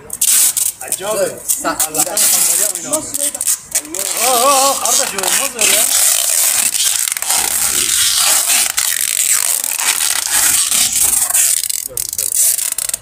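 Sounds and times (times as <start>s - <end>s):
adhesive tape ripping: 0.1s - 13.0s.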